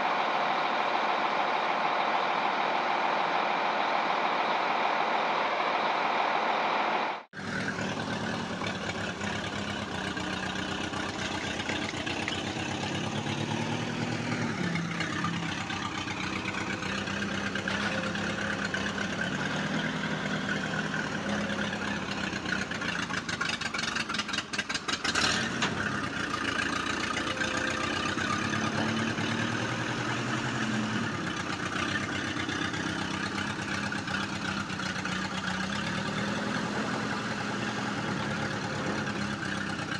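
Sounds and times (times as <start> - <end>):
heavy vehicle engine idling: 0.0 - 39.9.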